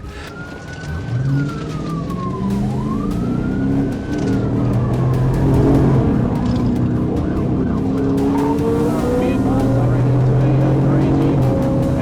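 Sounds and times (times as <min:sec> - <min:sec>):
police siren wailing: 0:00.0 - 0:12.0
vehicle engine and road noise: 0:00.0 - 0:12.0.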